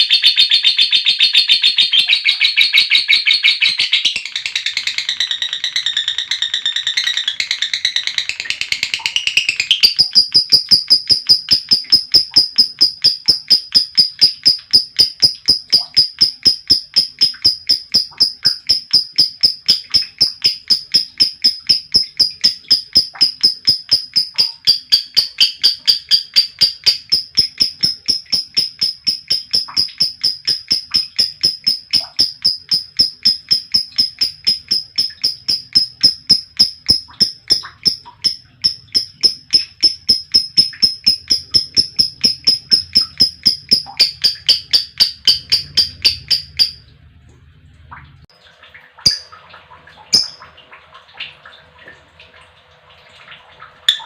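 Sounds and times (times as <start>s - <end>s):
bird rapid high chirps: 0.0s - 46.8s.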